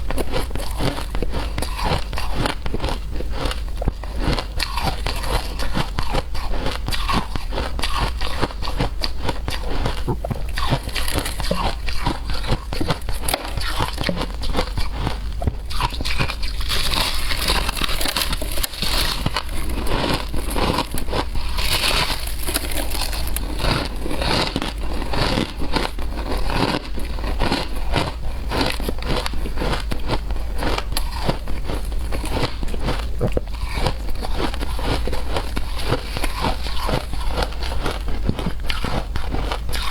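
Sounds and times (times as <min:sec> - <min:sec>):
steady low hum: 0:00.0 - 0:39.8
ice crunching while chewed: 0:00.0 - 0:39.9.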